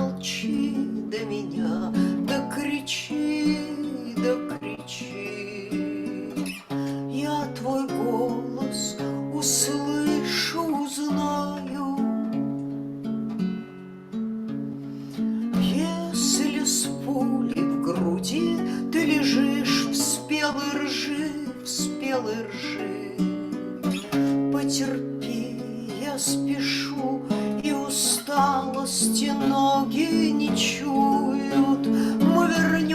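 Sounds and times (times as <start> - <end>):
woman singing: 0.0 - 12.5, 15.5 - 32.9
strummed acoustic guitar: 0.0 - 32.9.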